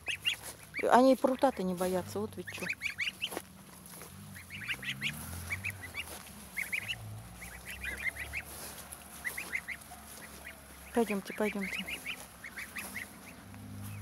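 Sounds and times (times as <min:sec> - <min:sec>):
goslings peeping: 0:00.0 - 0:14.0.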